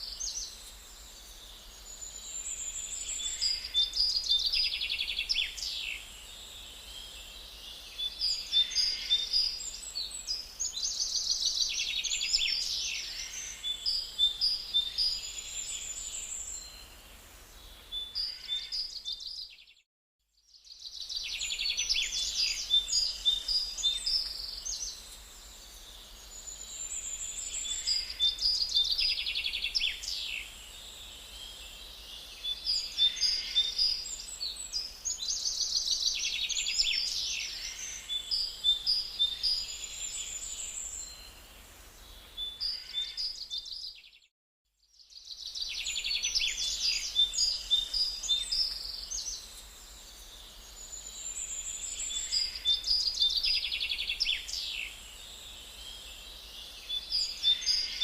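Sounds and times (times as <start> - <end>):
songbirds singing: 0.0 - 19.8, 20.4 - 58.0.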